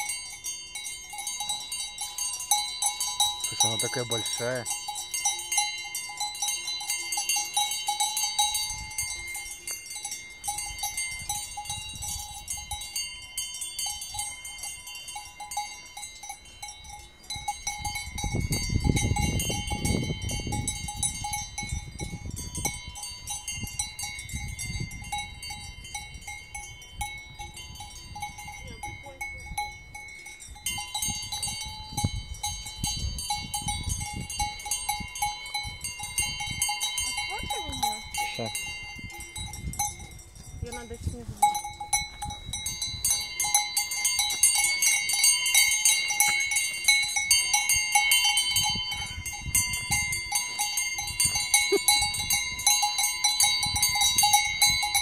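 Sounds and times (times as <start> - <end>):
cowbells clanking: 0.0 - 55.0.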